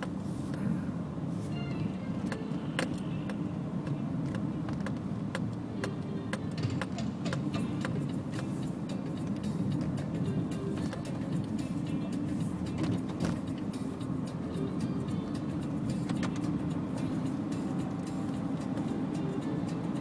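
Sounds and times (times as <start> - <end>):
tyre and engine rumble: 0.0 - 20.0.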